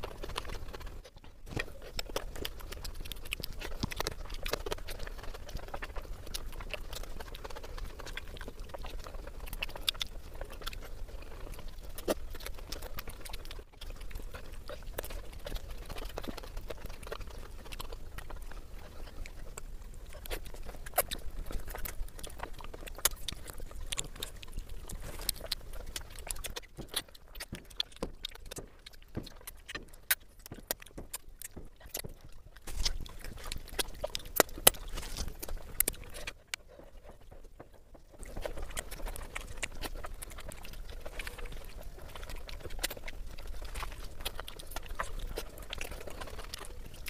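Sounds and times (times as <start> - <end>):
lip-smacking: 0.0 - 47.0
mouth clicks: 0.0 - 47.0
wet chewing: 0.0 - 47.0.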